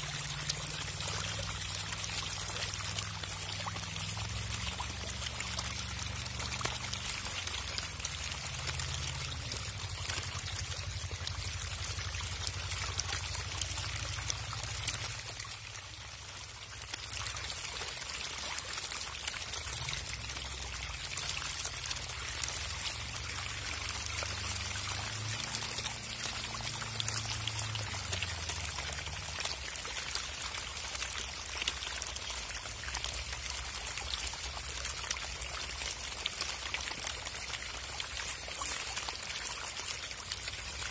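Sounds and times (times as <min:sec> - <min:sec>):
fish splashing in water: 0:00.0 - 0:40.9.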